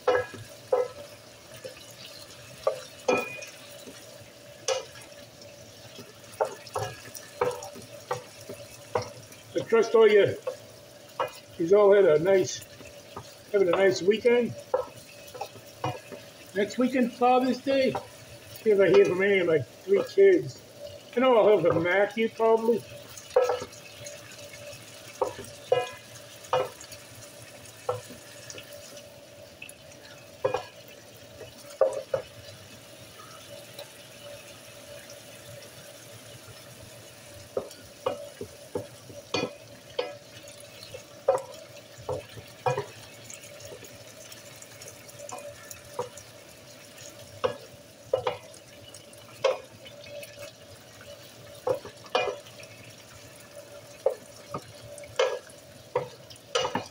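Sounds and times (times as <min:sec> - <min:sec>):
spoon scraping and knocking pan: 0:00.0 - 0:05.2, 0:05.8 - 0:11.6, 0:12.4 - 0:19.2, 0:20.9 - 0:29.0, 0:30.0 - 0:32.5, 0:37.4 - 0:46.3, 0:46.9 - 0:56.9
chicken sizzling in oil: 0:00.0 - 0:56.9.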